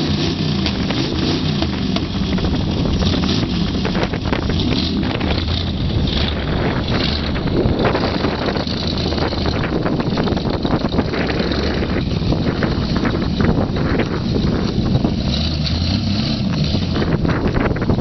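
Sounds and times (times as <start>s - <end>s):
car engine under load: 0.0s - 18.0s
wind buffeting microphone: 0.6s - 18.0s.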